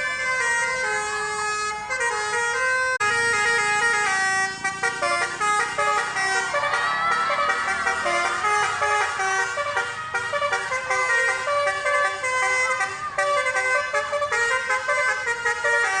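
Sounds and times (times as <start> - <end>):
multi-tone horn melody: 0.0 - 16.0.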